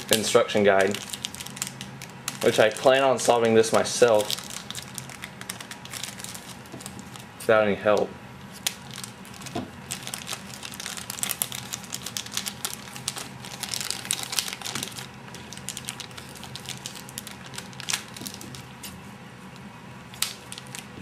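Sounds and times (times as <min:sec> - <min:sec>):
plastic wrapping crinkling: 0:00.0 - 0:07.5, 0:08.4 - 0:21.0.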